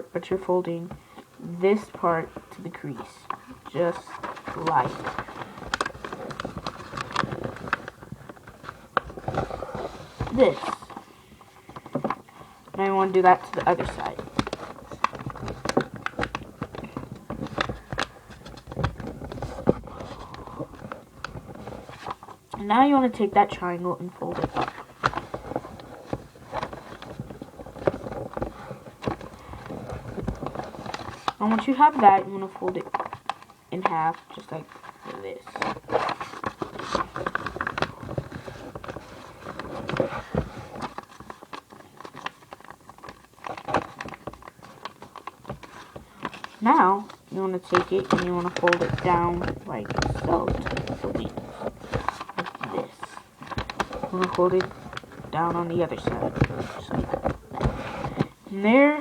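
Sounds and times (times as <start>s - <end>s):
paper being folded and creased: 1.4s - 59.0s.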